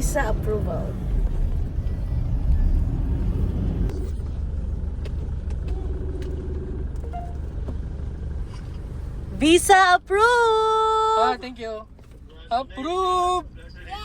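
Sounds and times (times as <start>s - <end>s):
car rumbling on road: 0.0s - 14.0s.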